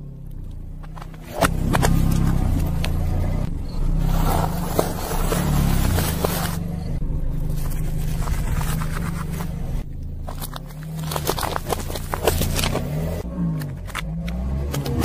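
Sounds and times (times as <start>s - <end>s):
car engine running low: 0.0s - 15.0s
tyre crushing small objects: 0.8s - 3.0s, 3.9s - 6.9s, 7.5s - 15.0s.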